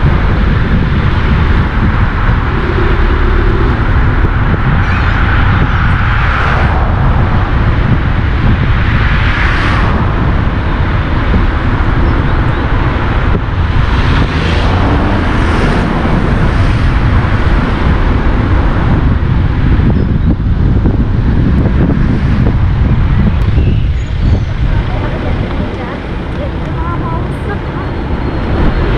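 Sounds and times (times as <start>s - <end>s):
wind rushing hiss: 0.0s - 26.3s
car road noise rumble: 0.0s - 28.9s.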